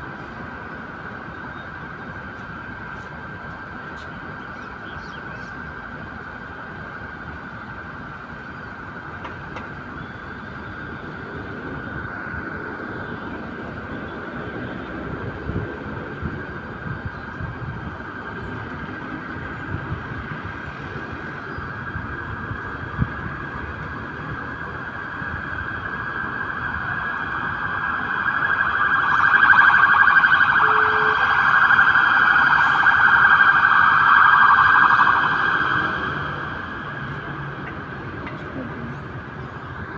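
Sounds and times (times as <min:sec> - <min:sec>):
traffic: 0:00.0 - 0:39.9.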